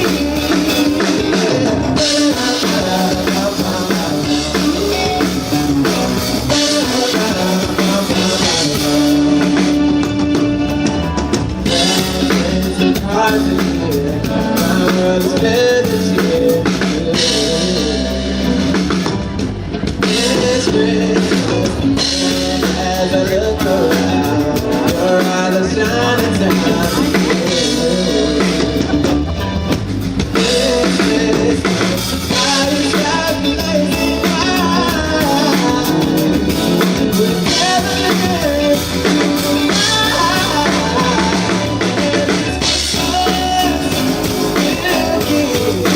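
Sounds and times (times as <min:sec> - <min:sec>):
person singing: 0:00.0 - 0:19.4, 0:20.0 - 0:45.9
drum kit: 0:00.0 - 0:45.9
electric guitar: 0:00.0 - 0:45.9.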